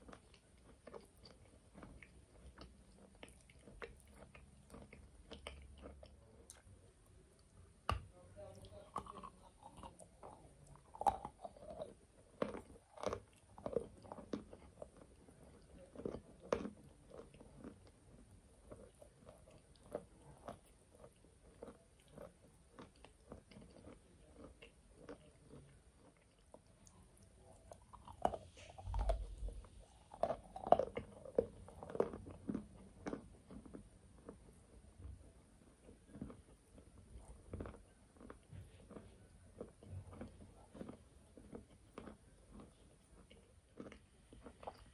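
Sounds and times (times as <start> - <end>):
chewing crunchy chalk: 0.0 - 6.8, 8.7 - 44.9.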